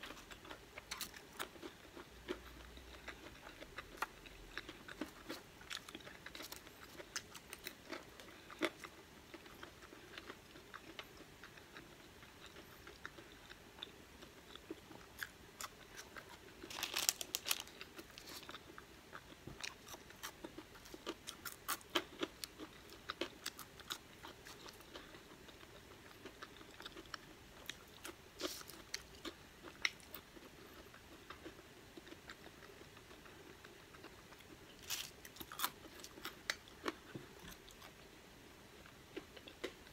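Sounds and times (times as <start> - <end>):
chewing crunchy fries: 0.0 - 38.0, 38.8 - 39.9.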